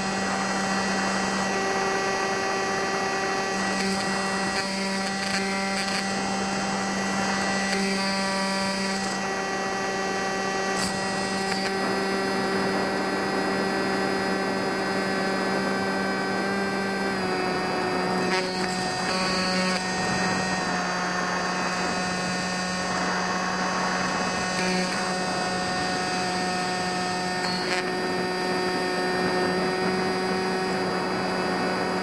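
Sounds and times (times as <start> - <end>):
air noise: 0.0 - 32.0
electric motor buzzing drone: 0.0 - 32.0.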